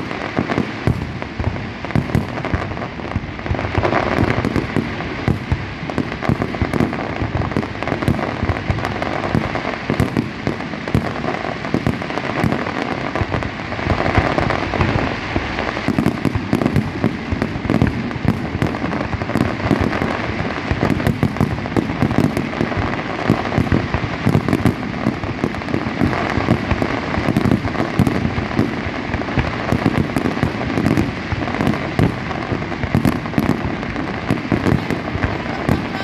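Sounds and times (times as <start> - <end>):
fireworks bangs and booms: 0.0 - 36.0
fireworks crackling: 0.0 - 36.0.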